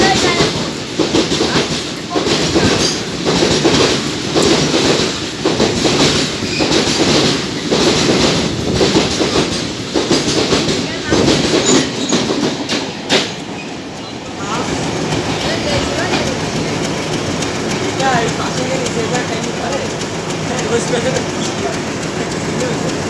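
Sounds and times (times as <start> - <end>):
train wheels clattering over joints: 0.0 - 23.0.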